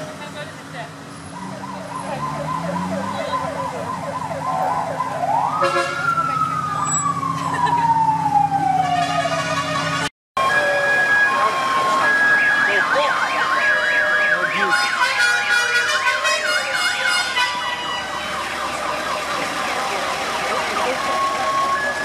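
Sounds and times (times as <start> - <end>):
siren sweeping up and down: 1.2 - 16.2, 16.9 - 22.0
two-tone siren: 1.2 - 22.0
horn blaring: 1.3 - 6.3, 8.7 - 22.0.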